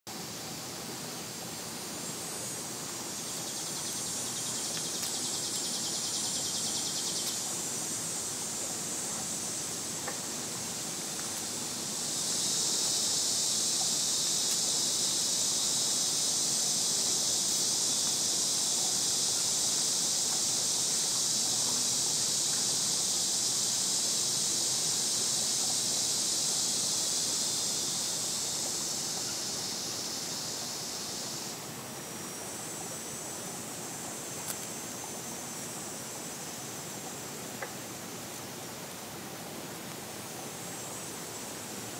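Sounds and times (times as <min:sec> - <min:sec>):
cicadas buzzing: 0:00.1 - 0:41.9
faint background hiss: 0:00.1 - 0:41.9.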